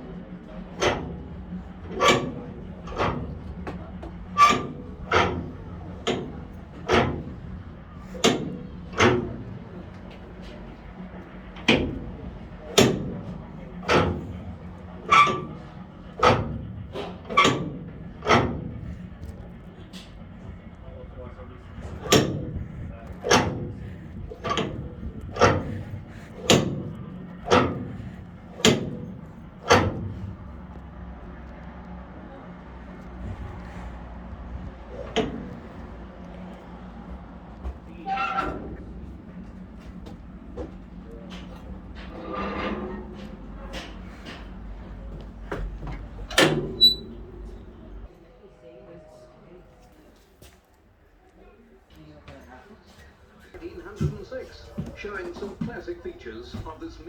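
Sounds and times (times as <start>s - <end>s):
steady low hum: 0.0s - 49.6s.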